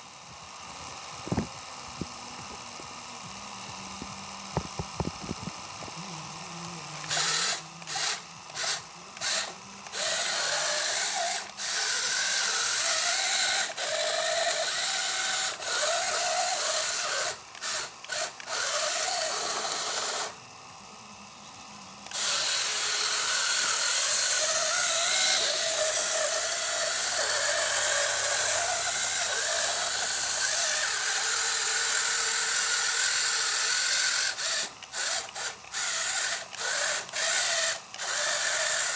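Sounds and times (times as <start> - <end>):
small electric motors whirring: 0.0 - 38.9.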